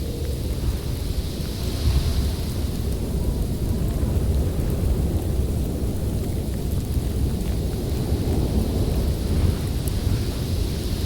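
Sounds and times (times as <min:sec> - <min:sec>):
snowstorm wind roaring: 0:00.0 - 0:11.0
wind hiss: 0:00.0 - 0:11.0.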